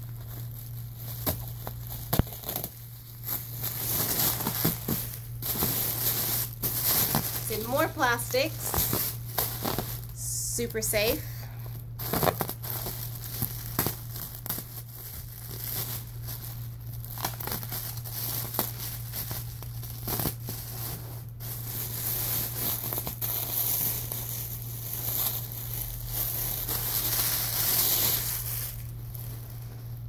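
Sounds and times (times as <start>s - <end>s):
plastic packaging crinkling and tearing: 0.0s - 30.0s.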